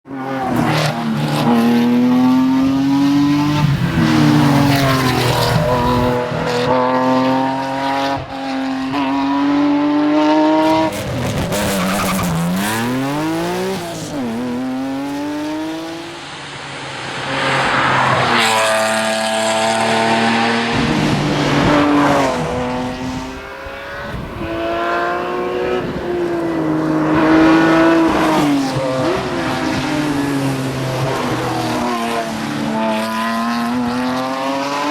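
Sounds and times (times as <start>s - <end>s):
car engine revving through gear changes: 0.1s - 16.2s, 17.3s - 34.9s.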